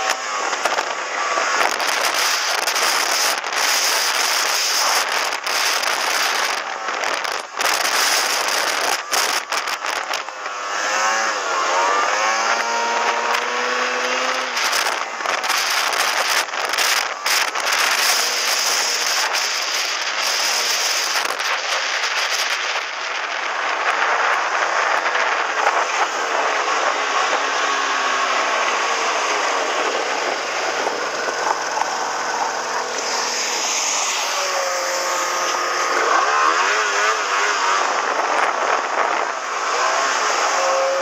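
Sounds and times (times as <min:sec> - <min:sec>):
rushing wind and snow: 0:00.0 - 0:41.0
snowmobile engine running: 0:00.0 - 0:41.0.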